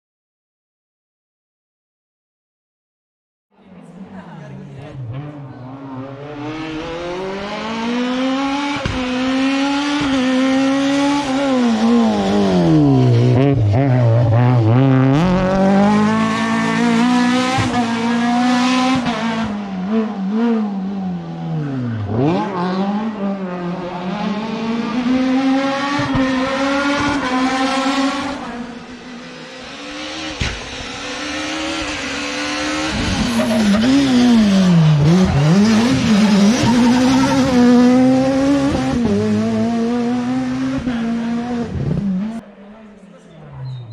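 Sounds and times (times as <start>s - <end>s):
rally car engine revving: 3.8s - 42.7s.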